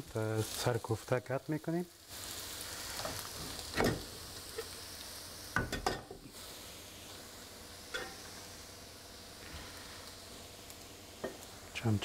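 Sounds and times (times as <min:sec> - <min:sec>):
onions sizzling in frying pan: 0:00.0 - 0:12.0.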